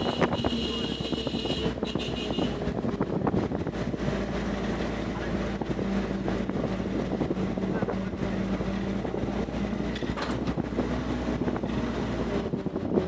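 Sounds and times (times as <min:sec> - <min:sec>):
vehicle engine running: 0:00.0 - 0:13.0
wind buffeting microphone: 0:00.0 - 0:13.0.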